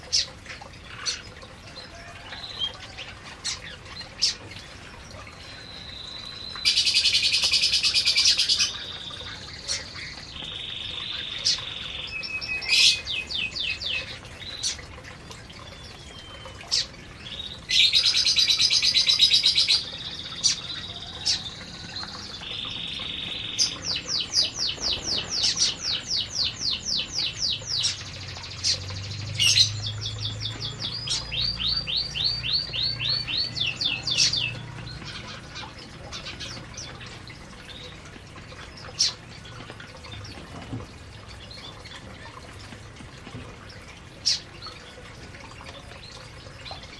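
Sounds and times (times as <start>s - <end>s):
canaries trilling: 0.0s - 40.4s.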